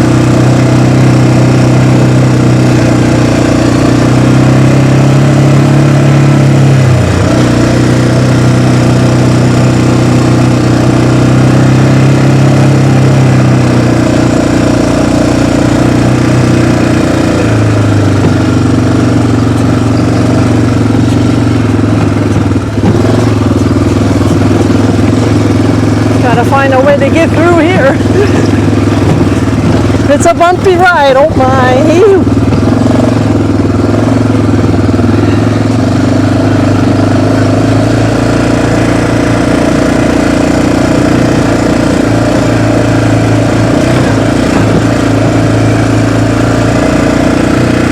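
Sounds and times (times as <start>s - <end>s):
off-road vehicle engine running: 0.0s - 47.9s.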